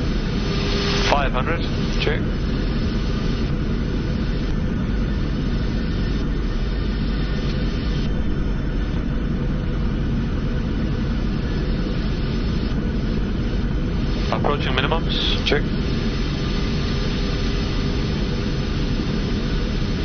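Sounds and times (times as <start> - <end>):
aircraft cockpit low rumble: 0.0 - 20.0.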